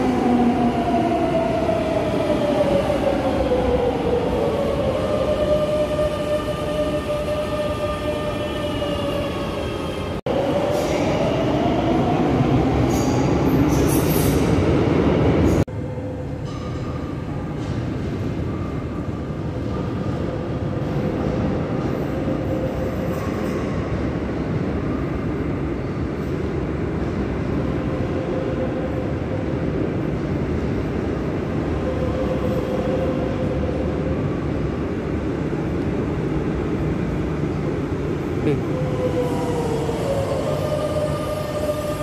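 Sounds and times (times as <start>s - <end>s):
train pulling in: 0.0s - 42.0s
train rumble and hum: 0.0s - 42.0s.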